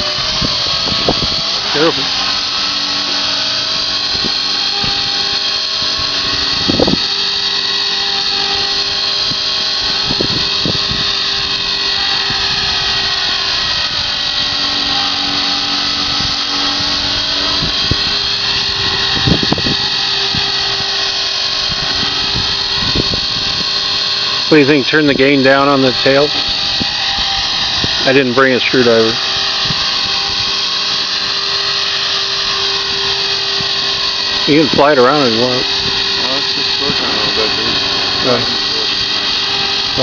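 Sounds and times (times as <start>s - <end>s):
model helicopter whine: 0.0s - 40.0s.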